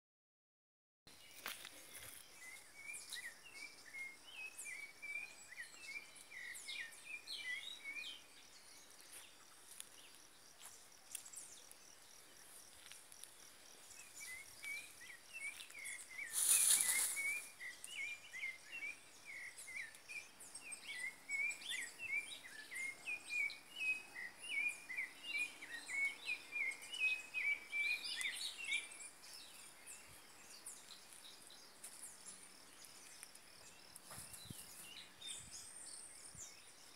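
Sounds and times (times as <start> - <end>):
birds chirping: 1.1 - 36.9.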